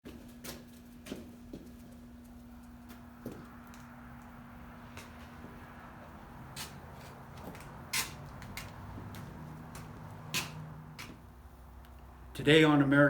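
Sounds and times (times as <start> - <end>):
steady low hum: 0.1 - 12.5.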